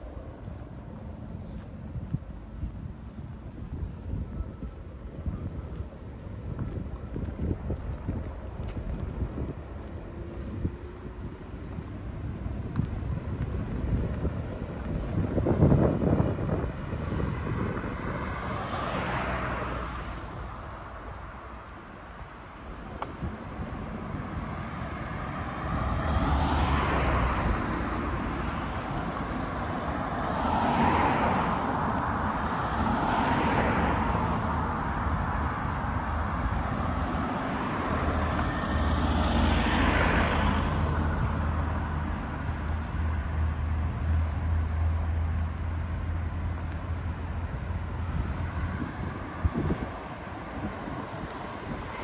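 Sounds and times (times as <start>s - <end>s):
cars passing: 0.0s - 52.0s
steady traffic hum: 0.0s - 52.0s.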